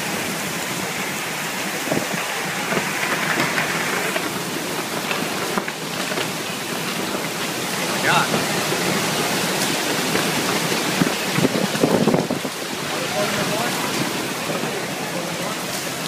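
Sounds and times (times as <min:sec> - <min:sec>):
torrential rain pouring: 0:00.0 - 0:16.0.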